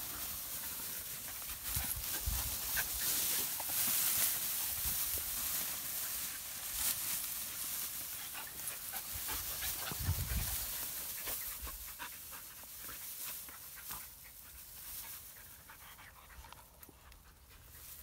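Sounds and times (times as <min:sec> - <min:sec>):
dogs panting: 0:00.0 - 0:04.6, 0:07.8 - 0:18.0
rustling through tall grass: 0:00.0 - 0:18.0.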